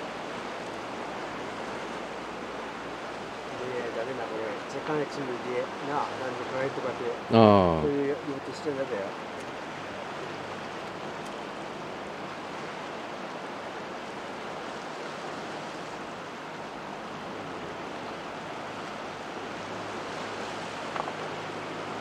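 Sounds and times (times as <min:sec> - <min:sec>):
sea surf on rocky shore: 0:00.0 - 0:22.0.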